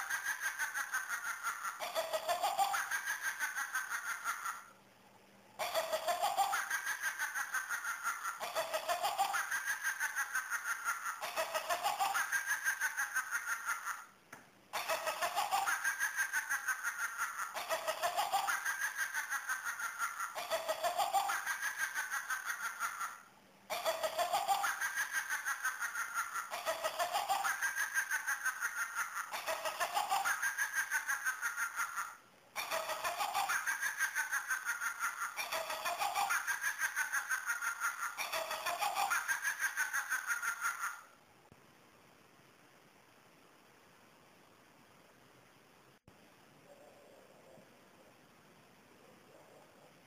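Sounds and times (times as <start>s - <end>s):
toy cackling laugh: 0.0s - 4.8s, 5.5s - 41.2s.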